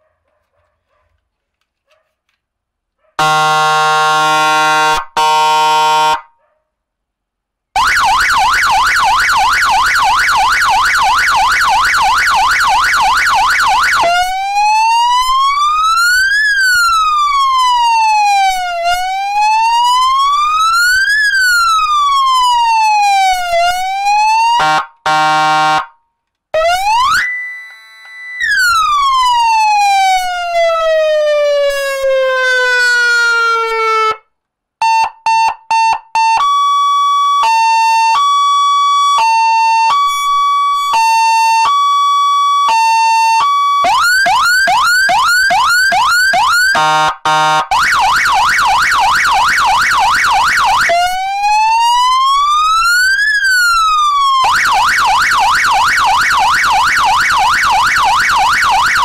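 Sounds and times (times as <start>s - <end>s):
electronic siren changing tones: 3.2s - 6.3s, 7.8s - 25.9s, 26.6s - 34.2s, 34.8s - 59.0s.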